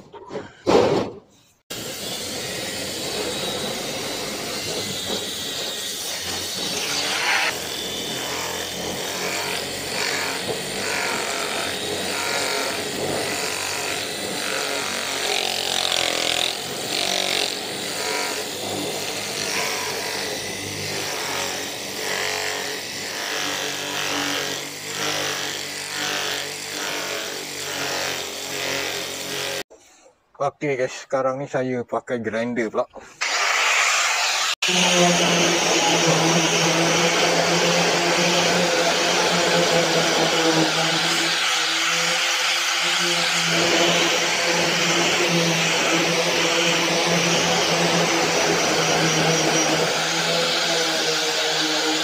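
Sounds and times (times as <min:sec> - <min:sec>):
electric polisher sanding metal: 0:01.7 - 0:29.7, 0:33.2 - 0:52.0.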